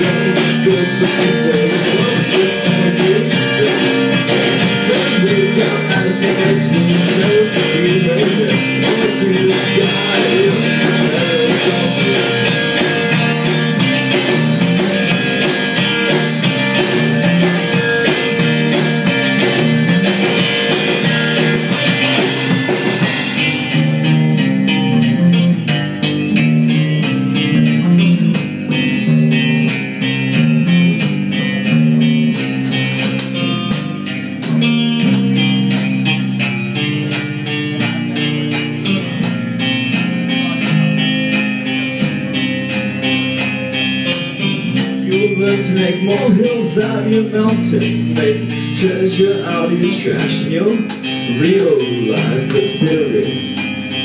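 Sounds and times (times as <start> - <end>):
drums: 0.0 - 54.0
electric guitars: 0.0 - 54.0.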